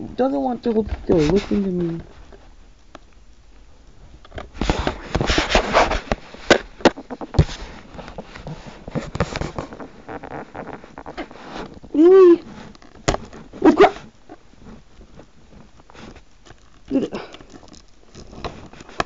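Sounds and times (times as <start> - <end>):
plastic wrapping crinkling: 1.0 - 19.0.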